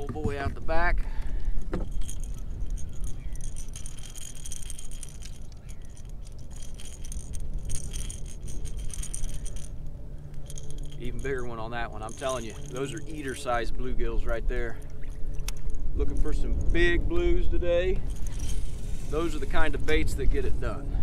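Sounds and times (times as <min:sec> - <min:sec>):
fishing tackle clicking and rattling: 0:00.0 - 0:20.8
rumble of wind and water: 0:00.0 - 0:21.0.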